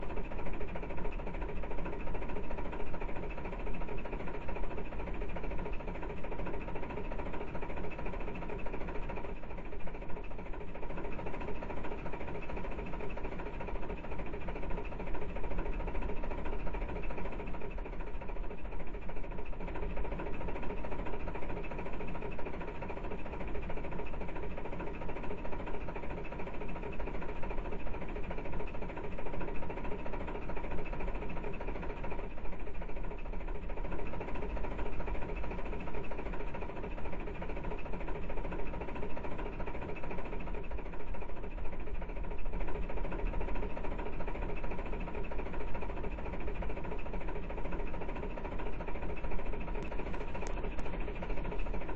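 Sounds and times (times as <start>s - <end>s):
constant hum: 0.0s - 51.9s
train mechanical rattle: 0.0s - 51.9s.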